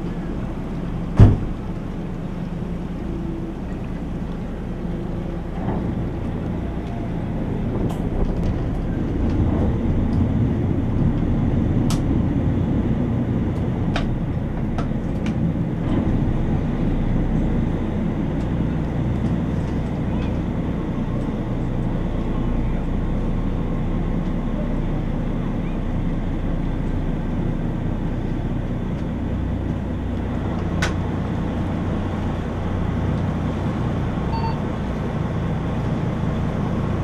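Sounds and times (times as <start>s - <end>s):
boat engine rumbling: 0.0s - 37.0s.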